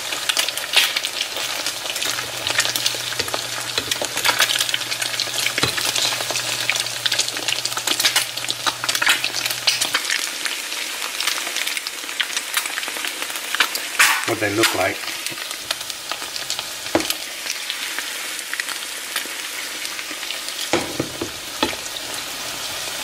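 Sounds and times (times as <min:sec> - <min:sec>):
eggs sizzling in oil: 0:00.0 - 0:23.0.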